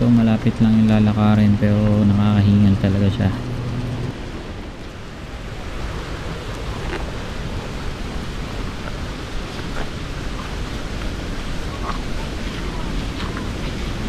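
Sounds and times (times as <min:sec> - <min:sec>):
low rushing noise: 0:00.0 - 0:14.0.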